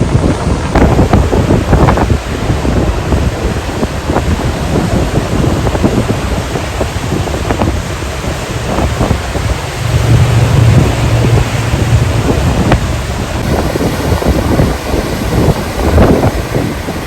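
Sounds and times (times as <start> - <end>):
ocean waves breaking on shore: 0.0 - 17.0
wind buffeting microphone: 0.0 - 17.0.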